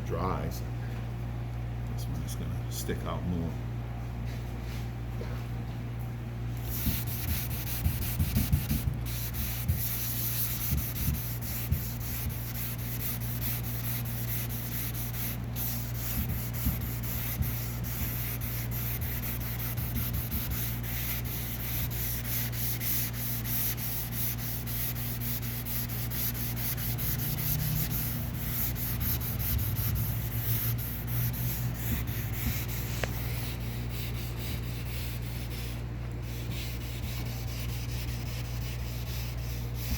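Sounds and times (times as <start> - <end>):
sandpaper rubbing on car paint: 6.6 - 39.9.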